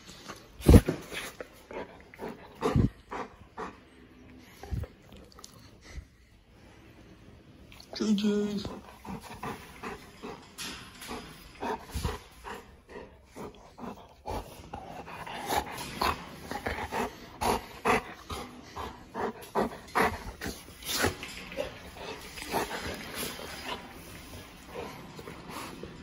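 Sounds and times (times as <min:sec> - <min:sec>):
dog panting: 0:01.7 - 0:06.2, 0:08.6 - 0:26.0.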